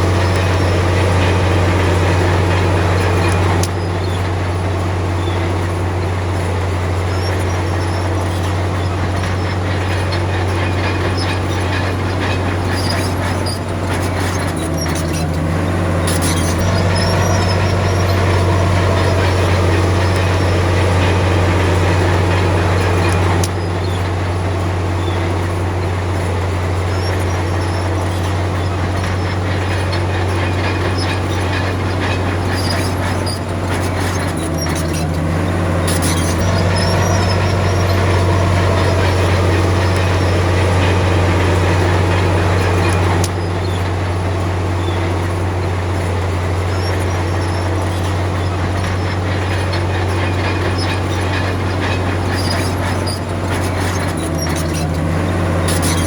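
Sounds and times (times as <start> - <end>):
bulldozer diesel engine running: 0.0 - 56.0
steel tracks clattering and squealing: 0.0 - 56.0.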